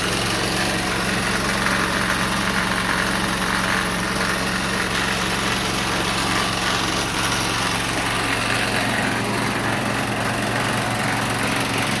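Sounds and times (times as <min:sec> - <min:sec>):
garden tractor engine running: 0:00.0 - 0:12.0.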